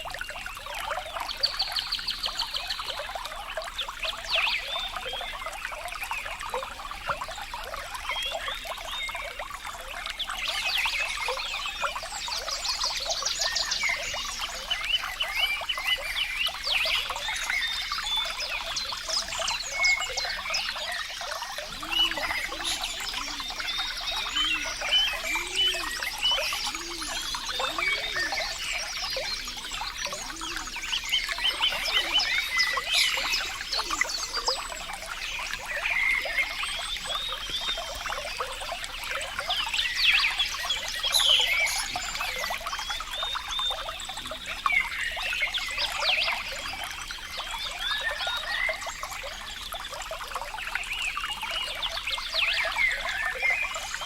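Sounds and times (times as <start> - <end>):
water trickling and gurgling: 0.0 - 54.0.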